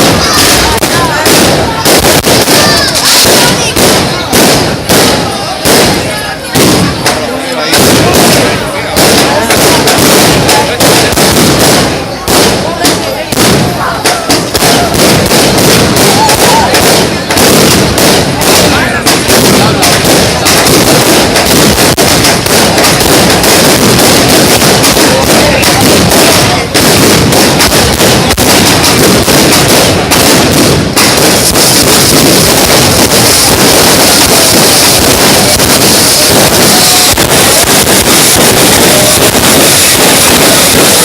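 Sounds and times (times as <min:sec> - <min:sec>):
fireworks bangs and cracks: 0:00.0 - 0:41.0
fireworks hissing crackle: 0:00.0 - 0:41.0.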